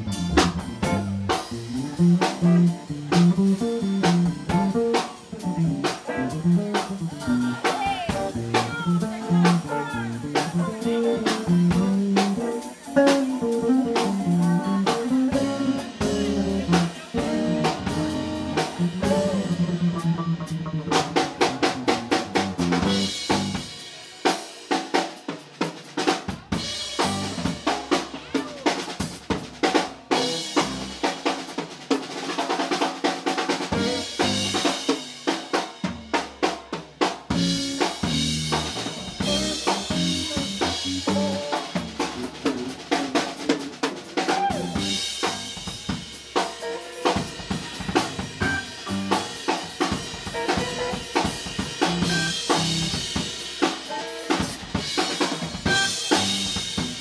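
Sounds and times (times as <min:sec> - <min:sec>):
drums with snare and cymbals: 0:00.0 - 0:57.0
live band playing: 0:00.0 - 0:57.0.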